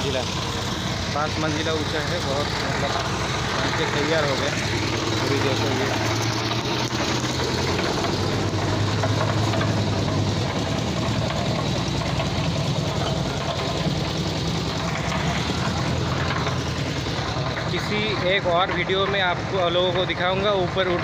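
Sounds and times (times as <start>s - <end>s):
concrete mixer engine droning: 0.0s - 21.0s.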